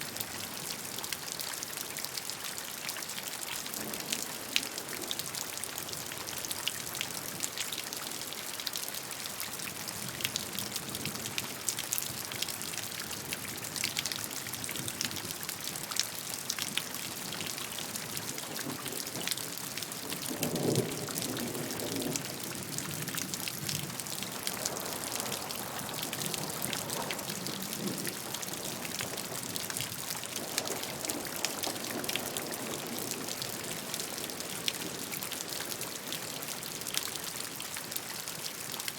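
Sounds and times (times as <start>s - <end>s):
rain drops ticking: 0.0s - 38.9s.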